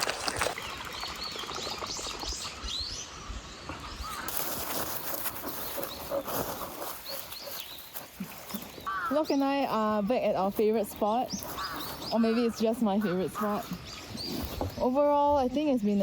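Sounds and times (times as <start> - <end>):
small birds chirping: 0.5 - 16.0.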